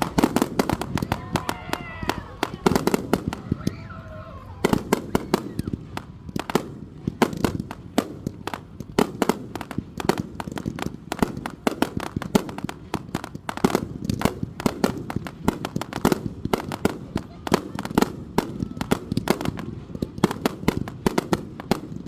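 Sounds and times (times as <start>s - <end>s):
fireworks popping and banging: 0.0s - 22.0s.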